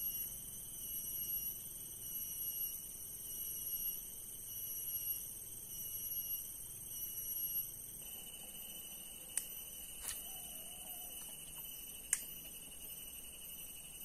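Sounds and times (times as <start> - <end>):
insect chorus buzzing and trilling: 0.0 - 14.0.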